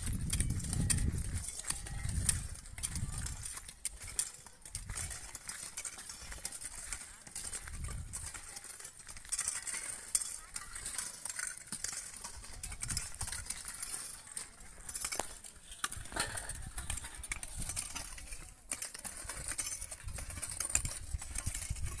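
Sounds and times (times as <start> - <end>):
hoes scraping dry soil: 0.0 - 22.0
small clinks: 0.0 - 22.0.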